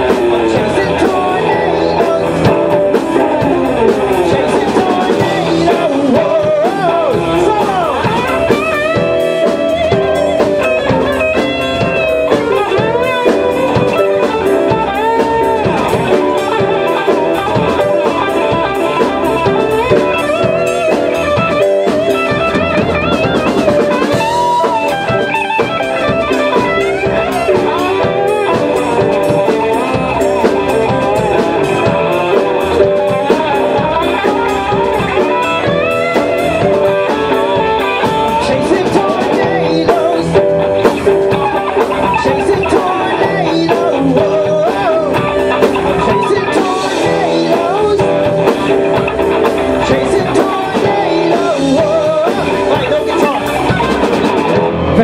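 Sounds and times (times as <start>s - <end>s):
drum kit: 0.0s - 55.0s
electric bass: 0.0s - 55.0s
electric guitar: 0.0s - 55.0s
keyboard: 0.0s - 55.0s.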